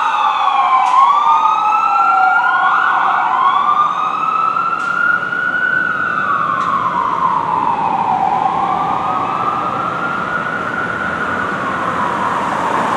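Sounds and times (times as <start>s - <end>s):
fire truck siren wailing: 0.0s - 12.9s
traffic noise: 0.0s - 12.9s.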